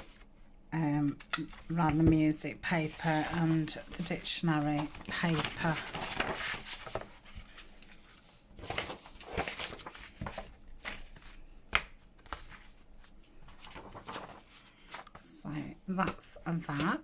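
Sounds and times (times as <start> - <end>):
paper rustling: 1.4 - 15.3.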